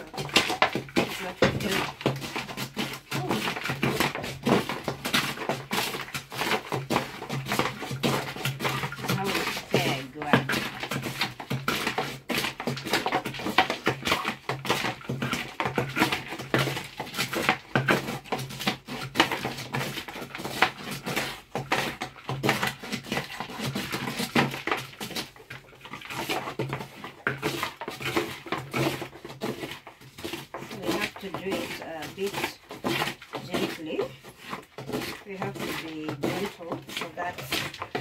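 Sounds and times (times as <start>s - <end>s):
stick scraping inside gourd: 0.0s - 38.0s.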